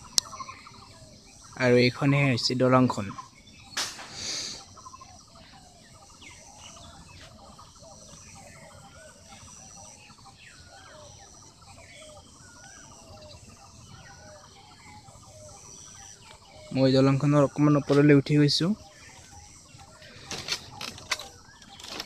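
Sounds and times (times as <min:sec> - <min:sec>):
birds chirping in chorus: 0:00.0 - 0:22.0.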